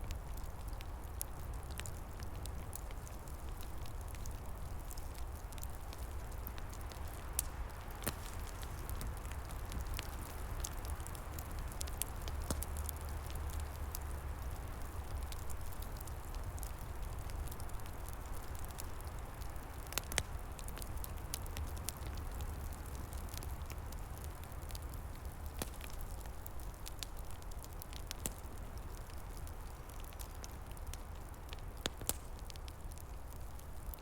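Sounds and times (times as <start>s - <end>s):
loud fire crack: 0.0s - 34.0s
wood fire crackling and popping: 0.0s - 34.0s.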